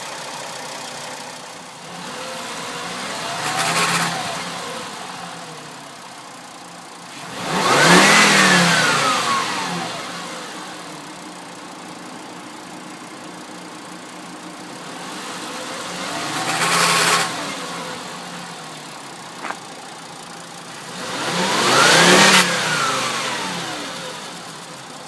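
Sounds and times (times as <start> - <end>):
misfiring car engine revving: 0.0 - 6.1, 7.0 - 25.0.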